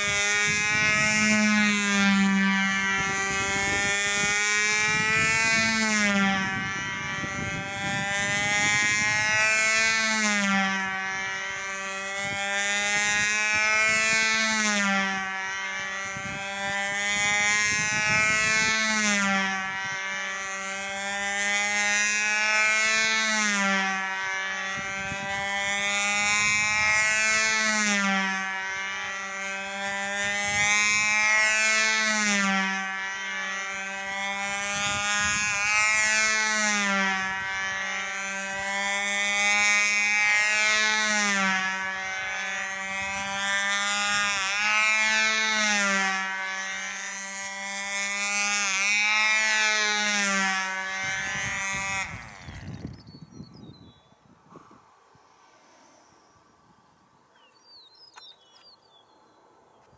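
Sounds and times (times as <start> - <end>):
model plane engine buzzing: 0.0 - 59.9.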